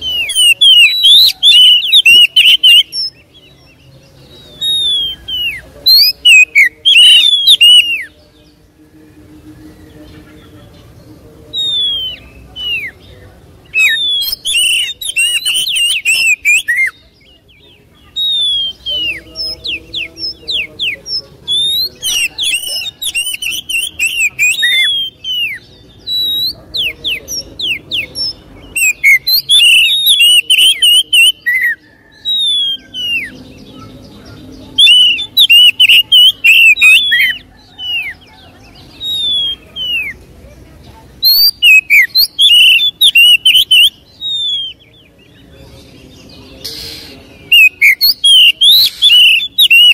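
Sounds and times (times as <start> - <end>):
bird singing: 0.0 - 49.9.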